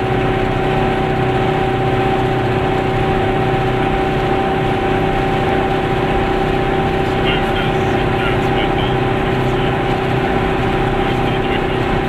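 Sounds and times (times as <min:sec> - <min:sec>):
car engine hum inside car: 0:00.0 - 0:12.0.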